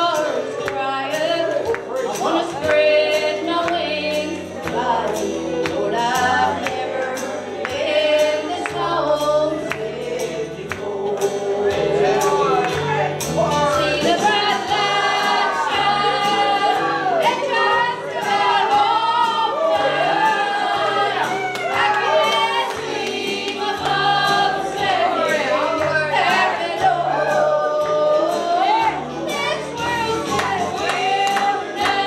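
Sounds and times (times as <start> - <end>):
woman singing gospel: 2.2 - 12.6, 13.6 - 32.0.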